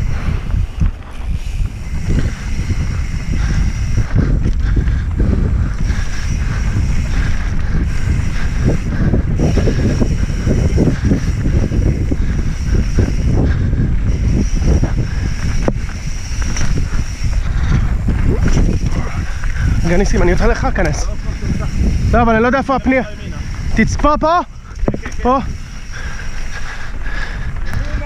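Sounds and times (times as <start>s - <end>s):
bike rattling: 0.0s - 28.0s
wind rumbling on microphone: 0.0s - 28.0s.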